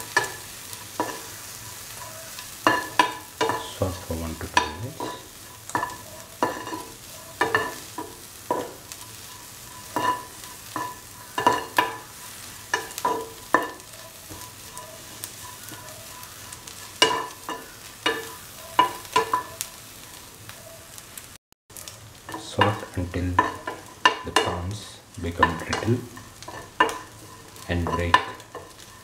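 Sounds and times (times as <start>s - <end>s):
spatula scraping a pan: 0.0s - 20.3s, 21.8s - 29.0s.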